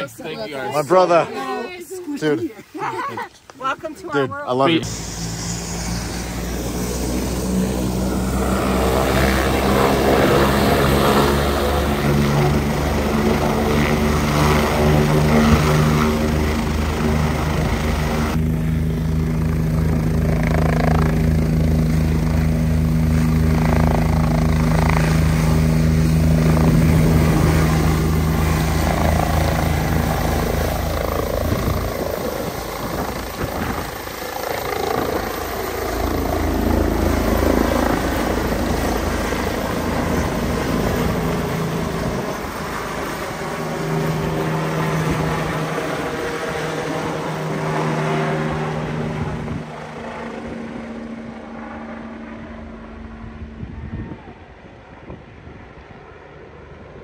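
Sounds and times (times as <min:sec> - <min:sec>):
helicopter taking off and flying: 0:00.0 - 0:57.0.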